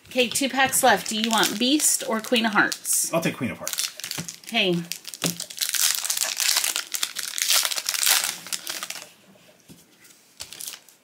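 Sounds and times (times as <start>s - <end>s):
foil wrapper crinkling: 0.1s - 9.2s, 10.4s - 11.0s.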